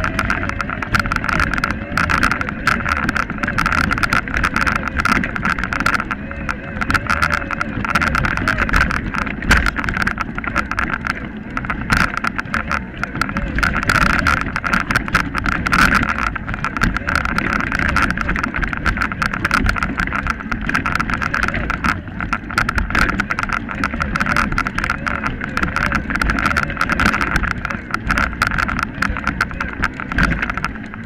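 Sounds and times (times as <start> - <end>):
bike rolling over stones: 0.0 - 31.0
rattling clicks and knocks: 0.0 - 31.0.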